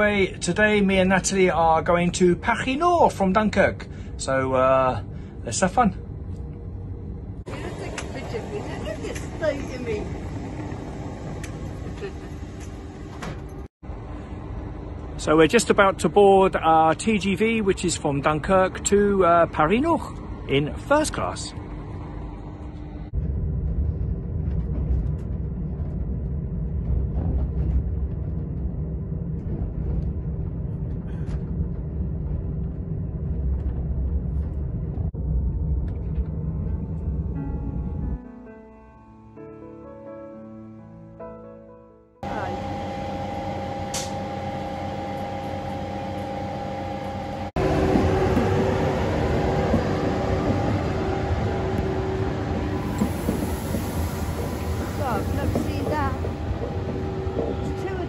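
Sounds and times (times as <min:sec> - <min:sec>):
train carriage rumble and hum: 0:00.0 - 0:39.2, 0:42.2 - 0:58.0.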